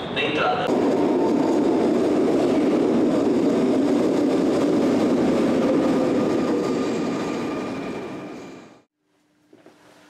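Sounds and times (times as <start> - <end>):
train wheels rumbling on rails: 0.6 - 8.8.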